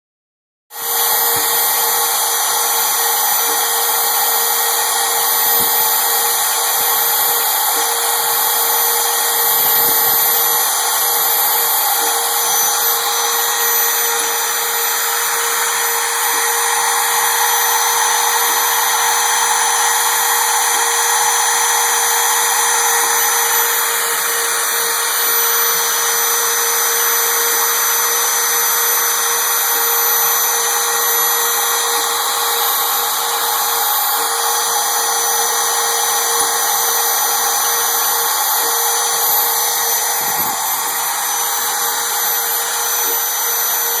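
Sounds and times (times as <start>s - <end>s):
router spindle whine: 0.7s - 44.0s
cutting hiss: 0.8s - 44.0s.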